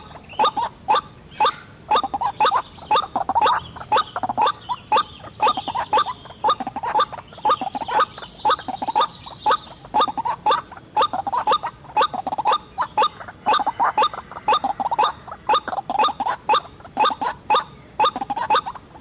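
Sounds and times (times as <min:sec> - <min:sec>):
bird calling harsh notes: 0:00.0 - 0:19.0.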